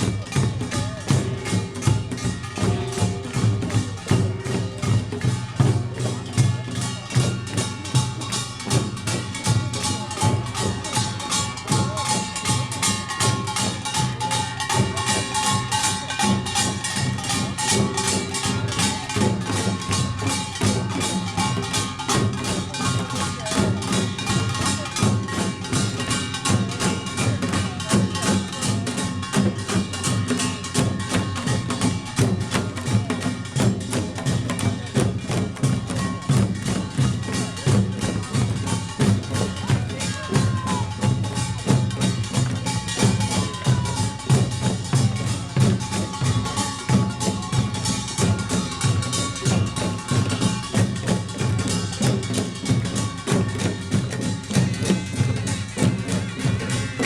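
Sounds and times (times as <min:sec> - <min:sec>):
drums beating: 0:00.0 - 0:57.0
small gongs clanging fast: 0:00.0 - 0:57.0.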